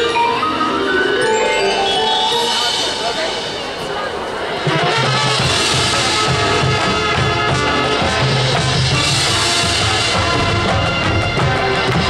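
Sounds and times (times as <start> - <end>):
marching band playing: 0.0 - 12.0.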